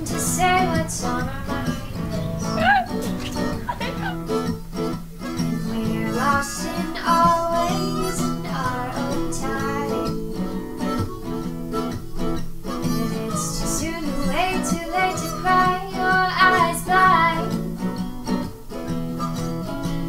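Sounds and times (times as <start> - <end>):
woman singing: 0.0 - 4.3, 5.5 - 17.8
strummed acoustic guitar: 0.0 - 20.0.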